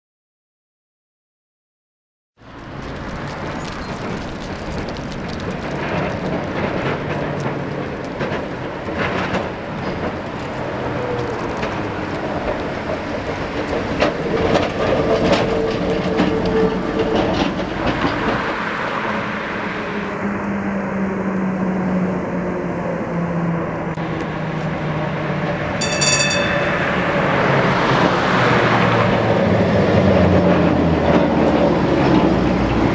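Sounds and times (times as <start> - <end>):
tram wheels clattering over rails: 2.5 - 20.0, 24.0 - 32.9.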